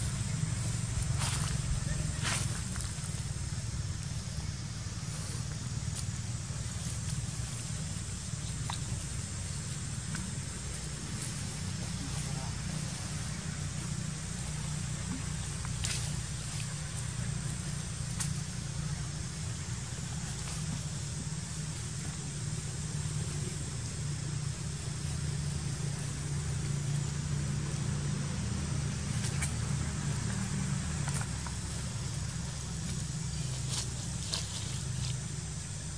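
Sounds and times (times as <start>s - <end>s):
engine humming: 0.0s - 35.9s
low outdoor rumble with hiss: 0.0s - 35.9s.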